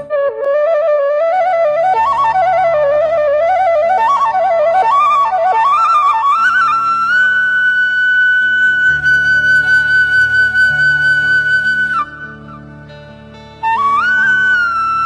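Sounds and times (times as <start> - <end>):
low sustained accompaniment: 0.0 - 15.0
solo flute melody: 0.0 - 15.0.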